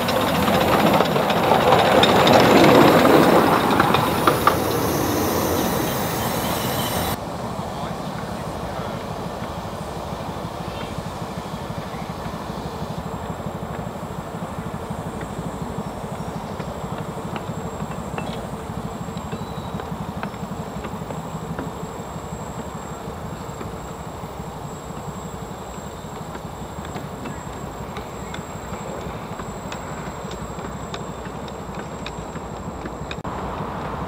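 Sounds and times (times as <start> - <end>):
miniature locomotive passing: 0.0 - 34.0.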